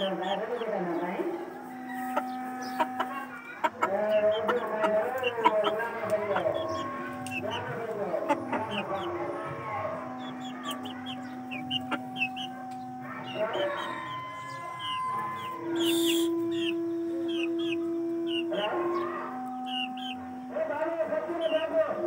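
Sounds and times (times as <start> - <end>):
long held tones: 0.0 - 22.0.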